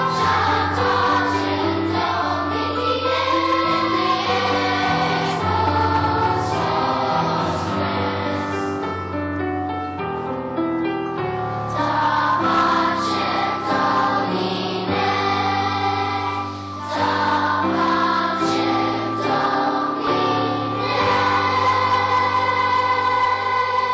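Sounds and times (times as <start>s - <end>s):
children's choir singing: 0.0s - 9.2s, 11.4s - 23.9s.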